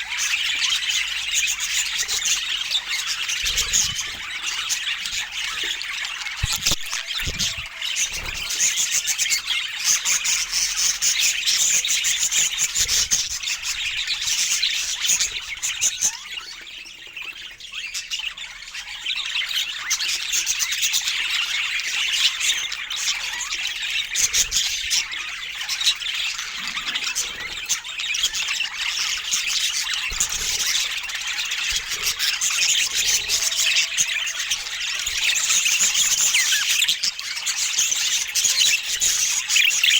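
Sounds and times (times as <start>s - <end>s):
budgerigar chatter: 0.0s - 39.9s.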